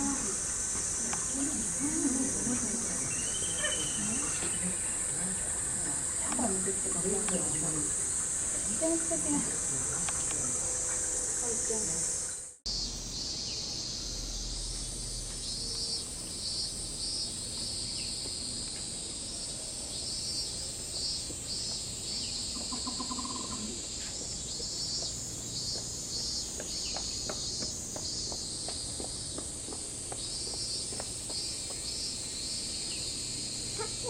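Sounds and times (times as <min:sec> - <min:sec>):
cicadas buzzing: 0:00.0 - 0:34.0
pulsing cicada chorus: 0:00.0 - 0:34.0.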